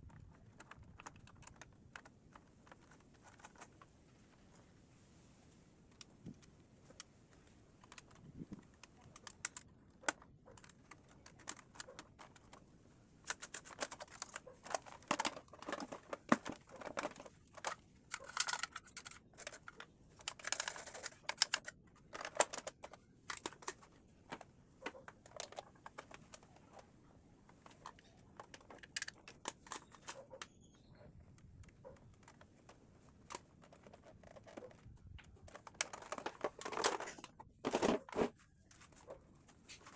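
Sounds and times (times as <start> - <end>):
plastic parts clicking and rattling: 0.0 - 4.7, 5.8 - 39.9
plastic parts scraping: 0.0 - 4.7, 5.9 - 39.9.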